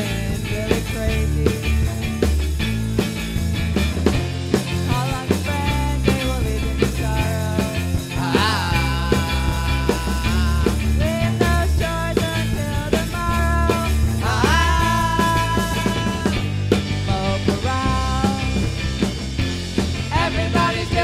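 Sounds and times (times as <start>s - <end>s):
music with drum beat and bass: 0.0s - 21.0s.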